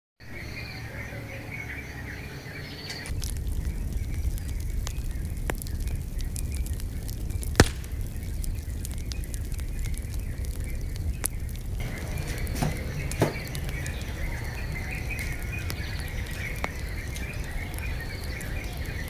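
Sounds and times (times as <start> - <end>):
birds chirping: 0.2 - 19.0
wood fire crackling and popping: 2.9 - 19.0
low rumble: 3.1 - 19.0.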